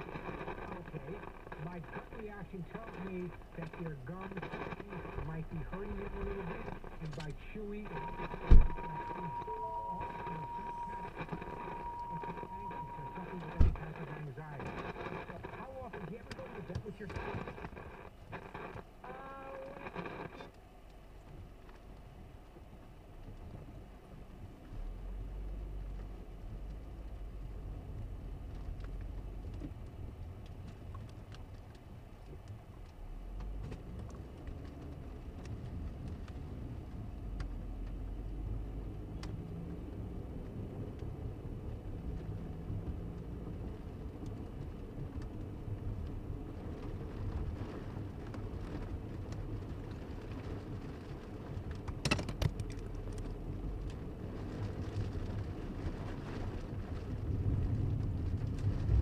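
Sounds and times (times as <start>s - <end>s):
engine and tyre rumble: 0.0s - 19.0s, 19.6s - 59.0s
rain ticking on windshield: 0.0s - 59.0s.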